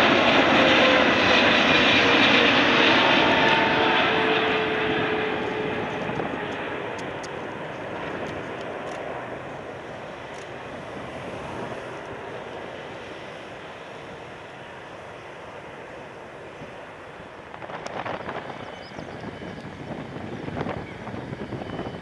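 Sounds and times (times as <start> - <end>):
jet engines of airliner: 0.0 - 22.0.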